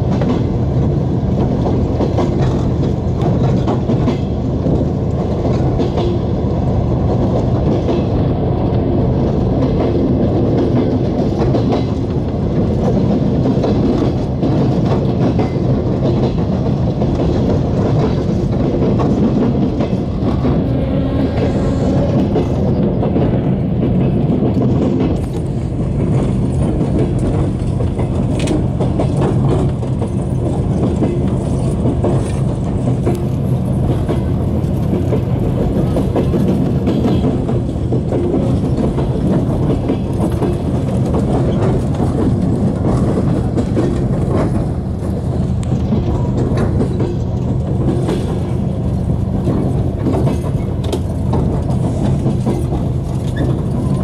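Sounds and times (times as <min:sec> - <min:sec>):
faint clicks over rail joints: 0:00.0 - 0:06.3, 0:09.4 - 0:20.4, 0:23.9 - 0:54.0
train wheels rumbling on rails: 0:00.0 - 0:54.0.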